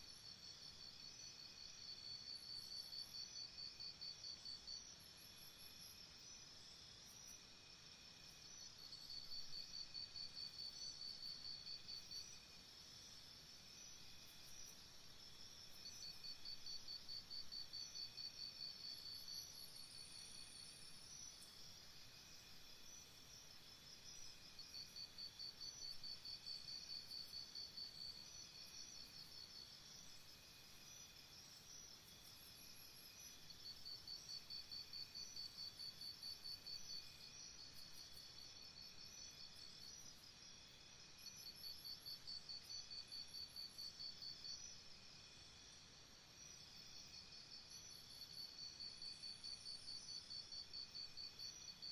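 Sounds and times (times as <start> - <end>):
soft outdoor hiss: 0.0 - 51.9
insects chirping: 0.1 - 51.9.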